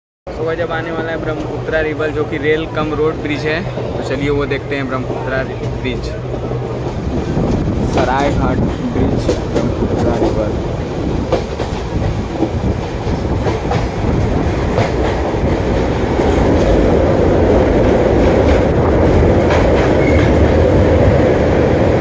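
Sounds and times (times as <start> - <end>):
train rumbling over a bridge: 0.3 - 22.0
wheels clacking over rail joints: 3.1 - 22.0.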